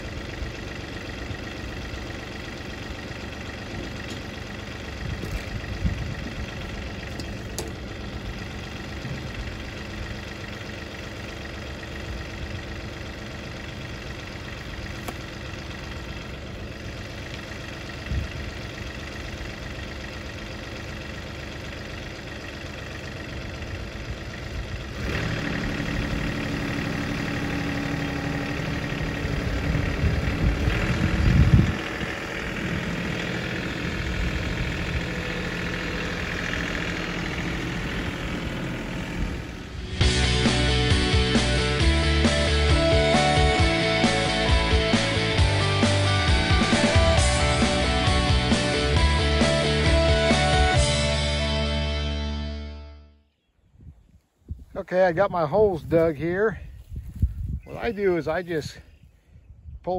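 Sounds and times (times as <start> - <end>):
tractor diesel engine: 0.0 - 53.4, 54.5 - 59.3.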